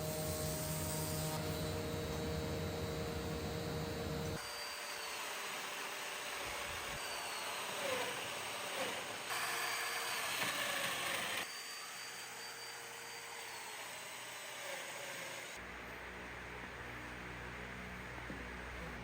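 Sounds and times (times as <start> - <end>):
woodworking power tools whirring: 0.0 - 19.0.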